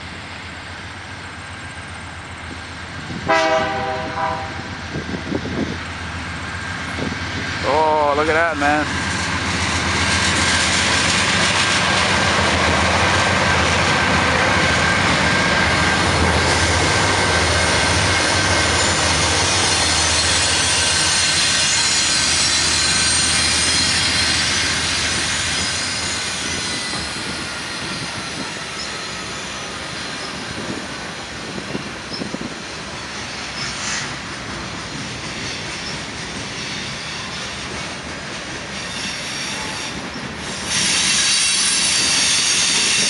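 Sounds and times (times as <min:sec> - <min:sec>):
diesel locomotive engines droning: 0:00.0 - 0:43.0.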